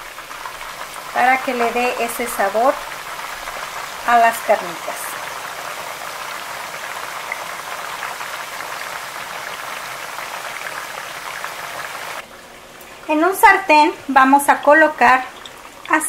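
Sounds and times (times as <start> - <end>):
meat sizzling in fat: 0.0 - 16.0.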